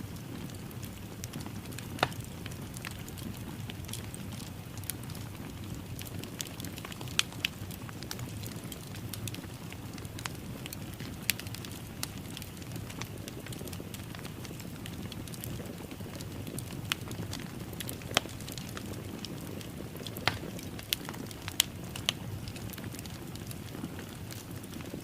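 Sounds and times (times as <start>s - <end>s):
low rush of flames: 0.0s - 25.0s
wood fire crackling and popping: 0.0s - 25.0s.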